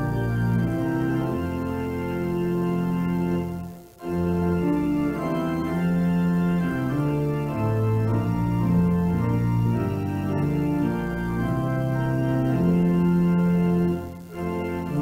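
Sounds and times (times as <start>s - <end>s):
organ playing sustained chords: 0.0s - 15.0s.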